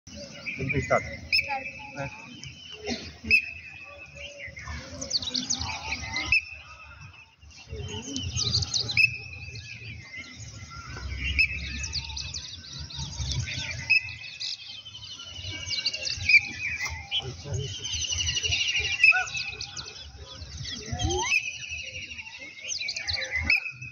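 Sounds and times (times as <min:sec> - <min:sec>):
birds chirping and calling: 0:00.1 - 0:23.9.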